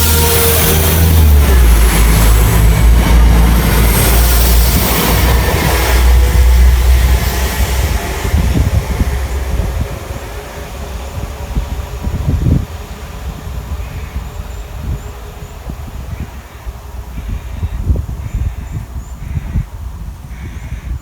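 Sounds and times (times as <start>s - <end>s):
train passing at speed: 0.0s - 18.2s.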